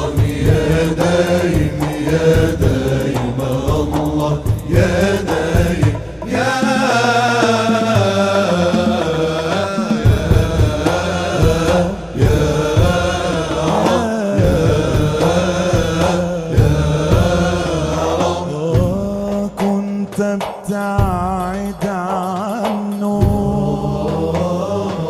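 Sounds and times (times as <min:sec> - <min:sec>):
chanted singing: 0:00.0 - 0:20.0, 0:22.1 - 0:25.0
low beat: 0:00.0 - 0:25.0.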